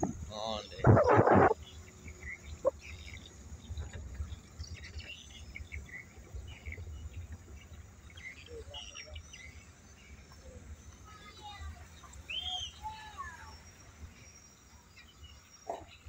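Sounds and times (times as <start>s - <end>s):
birds chirping: 0.0s - 16.0s
car rolling slowly: 1.5s - 16.0s.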